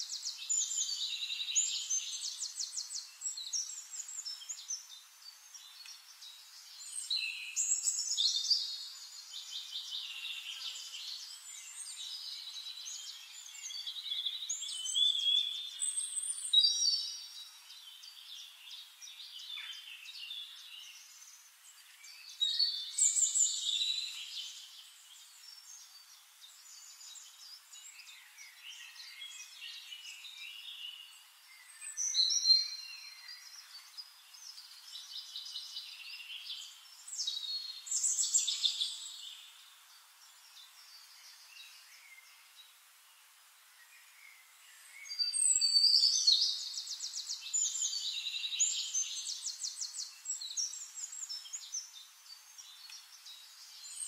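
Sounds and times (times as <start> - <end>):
birds chirping and singing: 0.0 - 42.7, 43.9 - 54.0.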